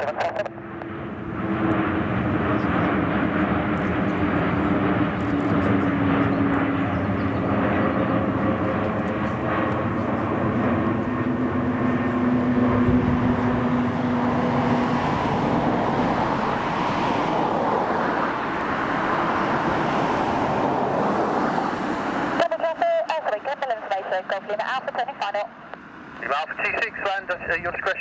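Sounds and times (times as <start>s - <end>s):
aircraft engine drone: 0.0s - 28.0s.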